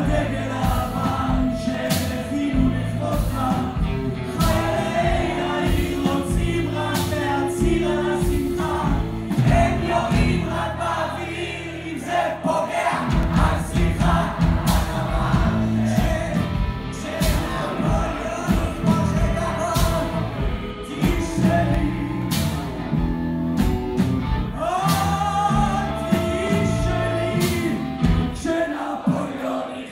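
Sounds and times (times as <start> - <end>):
voices singing together: 0.0 - 23.1, 24.5 - 29.9
live band music: 0.0 - 29.4.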